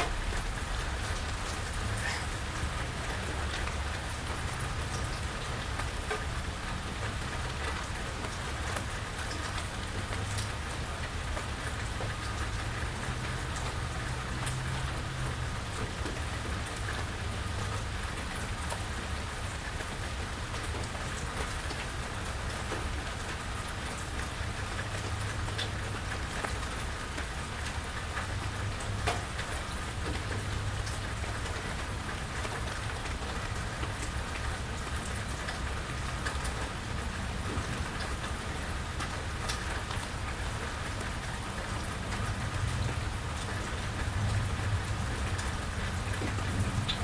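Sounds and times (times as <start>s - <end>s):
raindrops ticking on surfaces: 0.0s - 47.0s
steady rain hissing: 0.0s - 47.0s.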